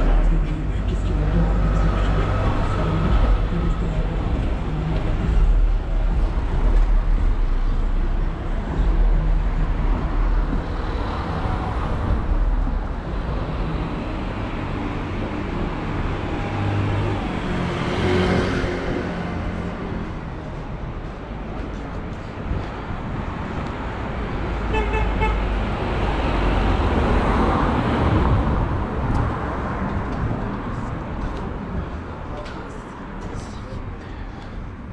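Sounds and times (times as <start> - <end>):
vehicles driving past: 0.0 - 34.9.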